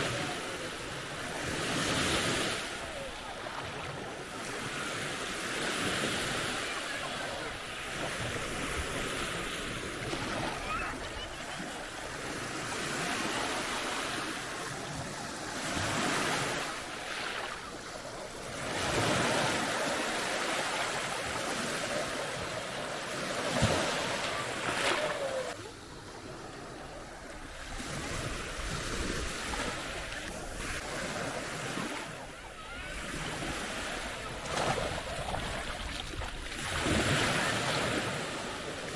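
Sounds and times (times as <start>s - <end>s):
waves breaking on beach: 0.0s - 38.9s.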